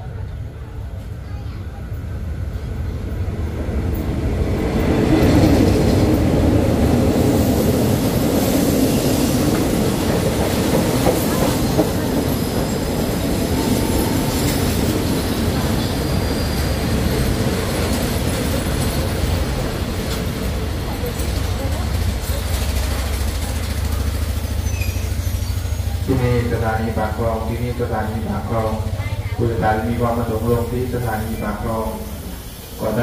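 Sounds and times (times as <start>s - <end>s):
train wheels rumbling and clattering: 0.2s - 33.0s.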